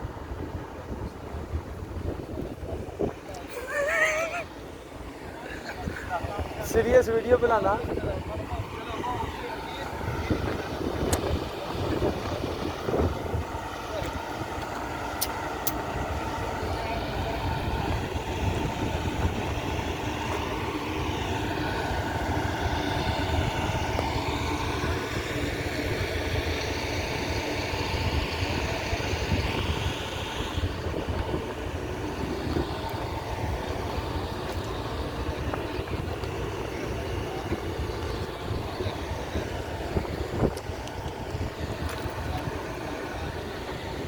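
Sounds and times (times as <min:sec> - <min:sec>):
excavator diesel engine rumbling: 0:00.0 - 0:44.0.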